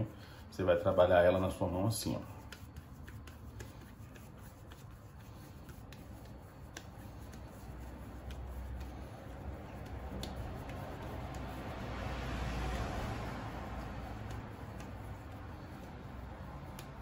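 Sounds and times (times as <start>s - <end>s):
hands shaping sticky dough: 0.0s - 17.0s.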